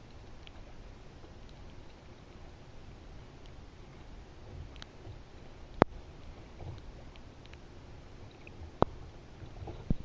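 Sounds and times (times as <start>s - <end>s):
water lapping against hull: 0.0s - 10.0s.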